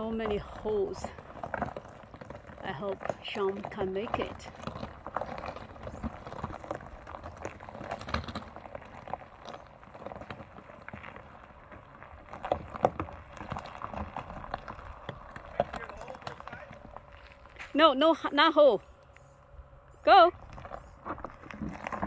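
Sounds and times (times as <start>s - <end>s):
gravel crunching and clicking: 0.0s - 22.0s.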